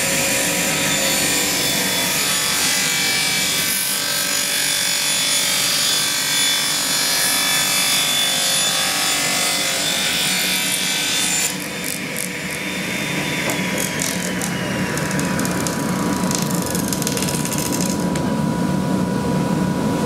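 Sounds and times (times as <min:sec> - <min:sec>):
circular saw ripping timber: 0:00.0 - 0:18.2.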